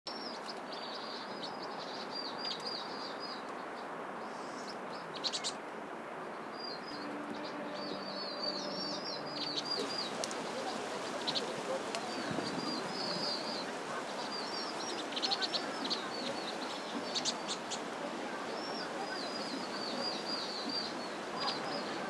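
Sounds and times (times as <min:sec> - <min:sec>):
background hiss: 0:00.1 - 0:22.0
small birds chirping: 0:00.1 - 0:22.0.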